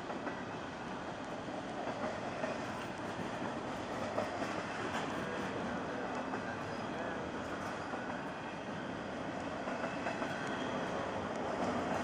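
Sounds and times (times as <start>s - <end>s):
freight train cars rolling: 0.0s - 12.0s.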